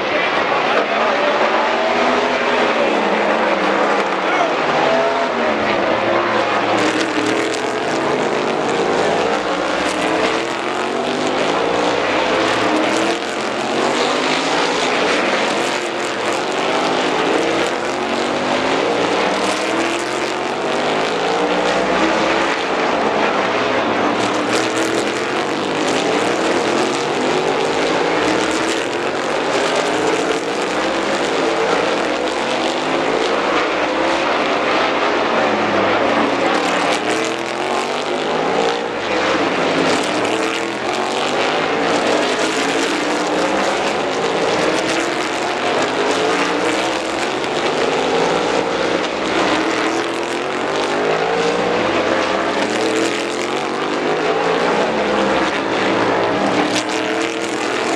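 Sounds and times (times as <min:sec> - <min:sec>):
race car engines accelerating: 0:00.0 - 0:57.9.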